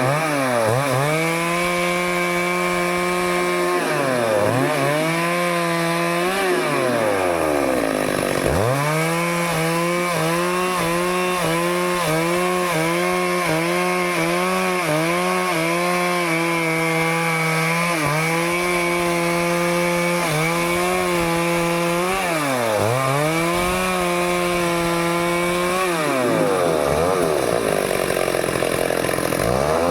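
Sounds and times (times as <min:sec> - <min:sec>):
chainsaw cutting wood: 0:00.0 - 0:29.9.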